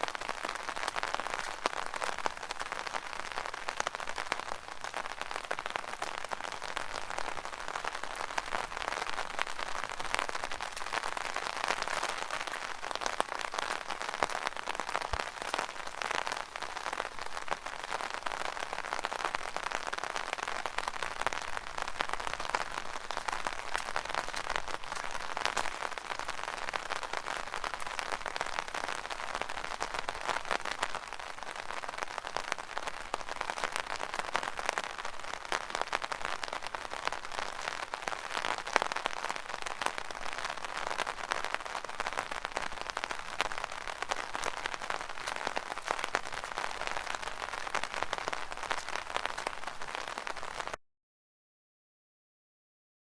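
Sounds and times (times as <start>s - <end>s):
rain pattering on an umbrella: 0.0s - 50.8s.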